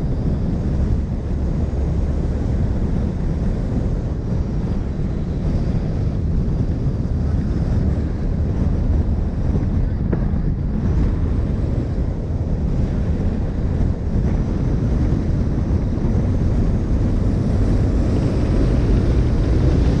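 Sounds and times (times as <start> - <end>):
road and engine rumble: 0.0 - 20.0
wind buffeting on microphone: 0.0 - 20.0.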